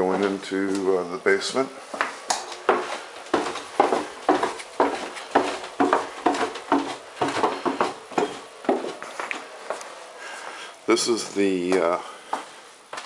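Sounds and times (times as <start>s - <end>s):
footsteps going down stairs: 0.0s - 13.0s.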